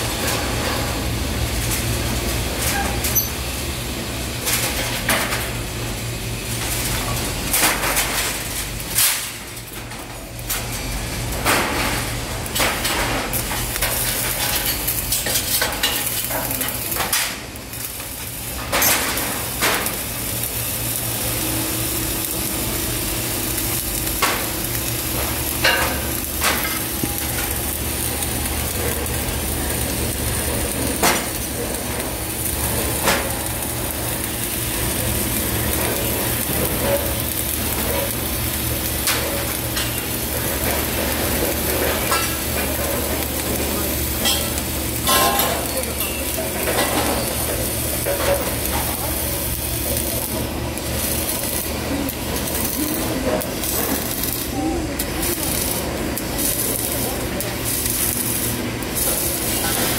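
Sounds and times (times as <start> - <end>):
welding arc crackle: 0.0 - 59.9.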